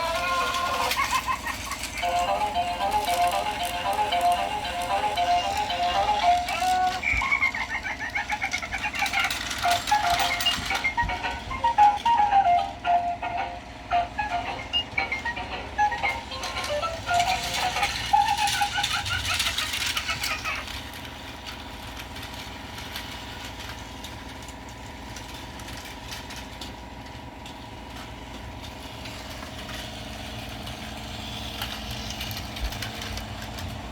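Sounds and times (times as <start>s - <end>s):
toy train motor whirring: 0.0s - 33.9s.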